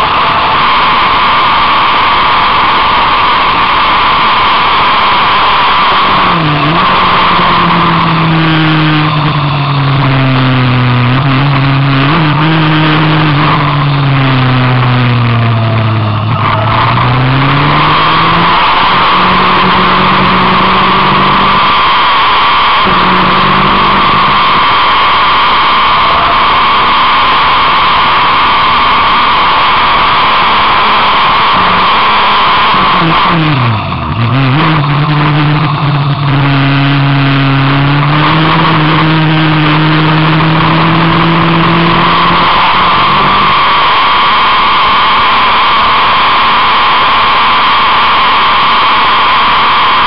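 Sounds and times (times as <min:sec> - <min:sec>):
loud rushing noise: 0:00.0 - 0:50.0
race car engine: 0:00.0 - 0:50.0.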